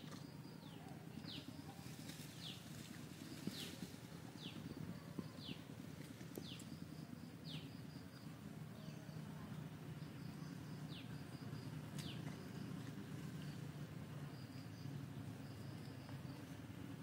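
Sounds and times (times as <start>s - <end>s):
faint high chirping pulses: 0.0s - 17.0s
low outdoor rumble: 0.0s - 17.0s.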